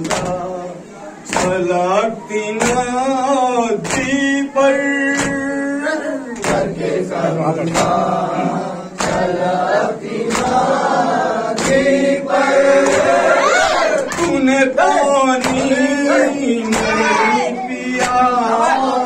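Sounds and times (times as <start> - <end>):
man singing a lament: 0.0 - 9.3, 11.7 - 19.0.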